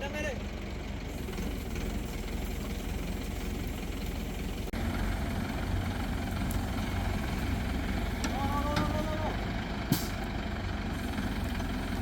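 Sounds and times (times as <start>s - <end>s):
crane engine running: 0.1s - 12.0s.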